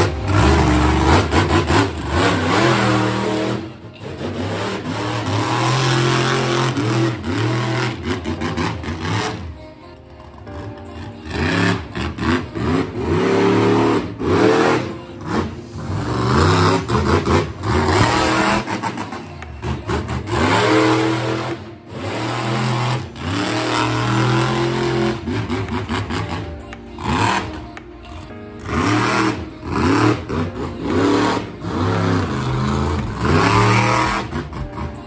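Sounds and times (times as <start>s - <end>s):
monster truck engine revving: 0.0s - 9.6s, 10.4s - 27.6s, 28.3s - 35.0s.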